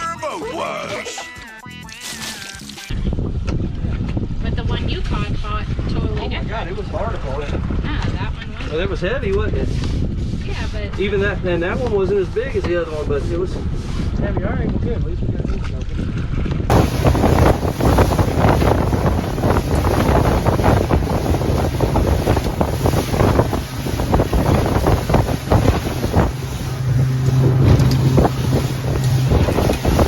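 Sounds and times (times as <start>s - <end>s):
water washing past hull: 2.0s - 30.0s
boat motor rumbling: 2.3s - 30.0s
wind buffeting microphone: 2.9s - 30.0s.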